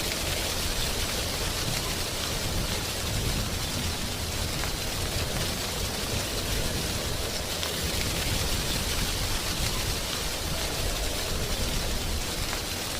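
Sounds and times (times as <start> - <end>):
wind rustling leaves: 0.0 - 12.9.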